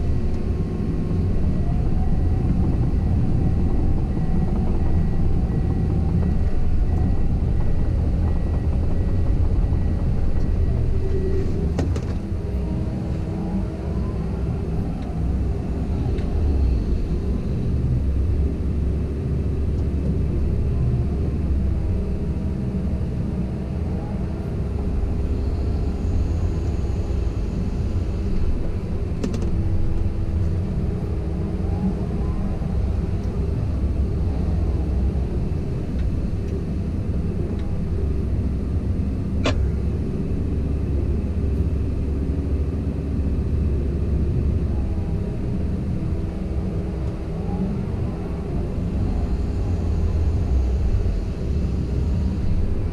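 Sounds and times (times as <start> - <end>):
excavator engine rumbling: 0.0 - 52.9.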